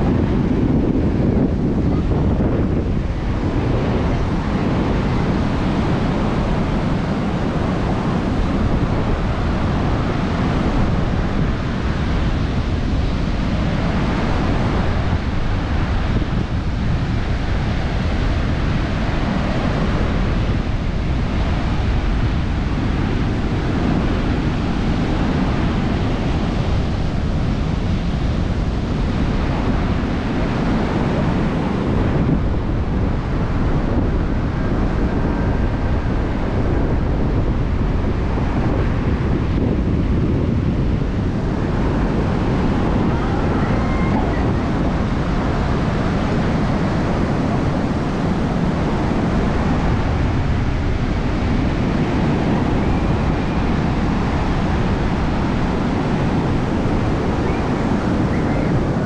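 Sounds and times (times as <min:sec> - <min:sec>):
surf washing in and out: 0:00.0 - 0:59.0
wind buffeting microphone: 0:00.0 - 0:59.0.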